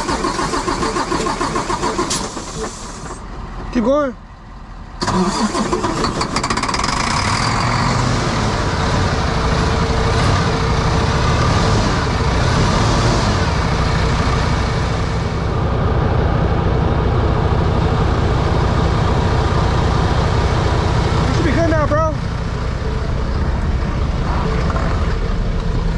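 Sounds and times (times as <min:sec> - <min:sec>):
diesel truck engine running: 0:00.0 - 0:25.9.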